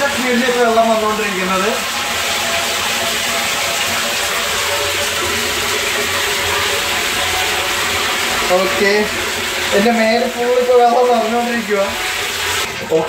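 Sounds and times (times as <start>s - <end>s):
water pouring into plastic tank: 0.0s - 13.0s.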